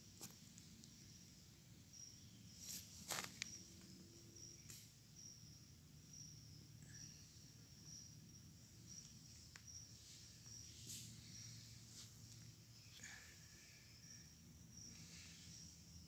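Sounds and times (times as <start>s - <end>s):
high insect chirps: 0.0s - 16.0s.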